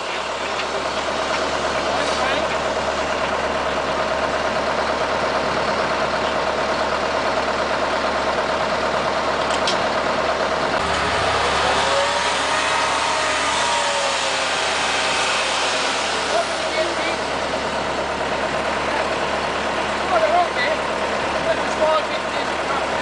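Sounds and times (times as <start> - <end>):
dump truck engine revving: 0.0 - 23.0.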